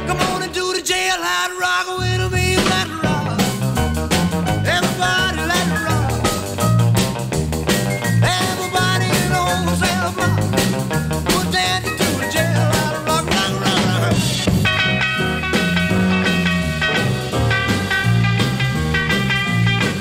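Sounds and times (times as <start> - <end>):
upbeat band music: 0.0 - 20.0.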